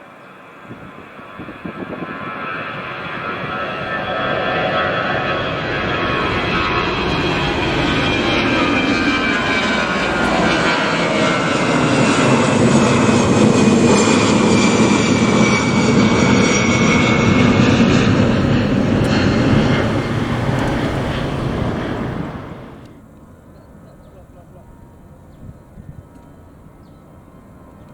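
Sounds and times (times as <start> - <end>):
jet airliner taking off: 0.0 - 23.5.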